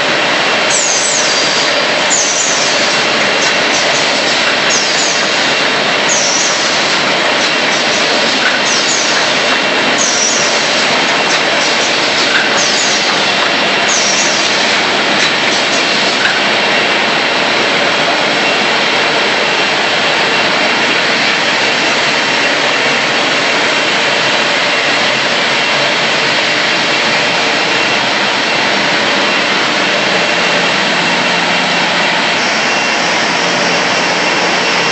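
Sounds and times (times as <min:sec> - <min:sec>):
paper cutting machine running: 0:00.0 - 0:34.9.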